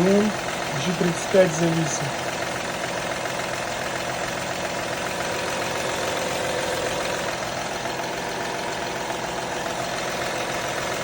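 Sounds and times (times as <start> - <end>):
engine idling with knock: 0.0 - 11.0.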